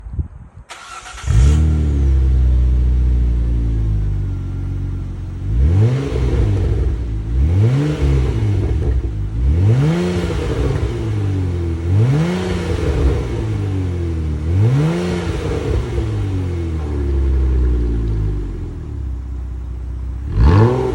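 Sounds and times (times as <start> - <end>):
car engine starting and revving: 0.7 - 20.9.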